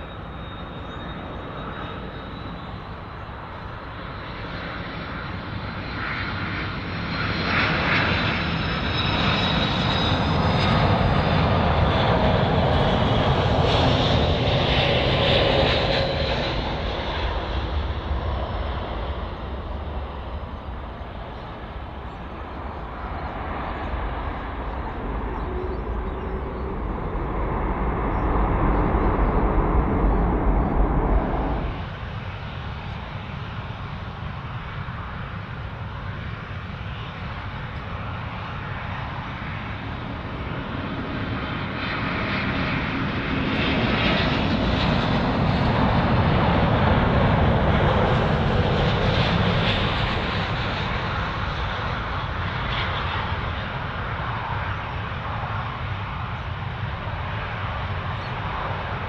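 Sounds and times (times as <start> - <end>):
jet airliner passing: 0.0 - 59.0.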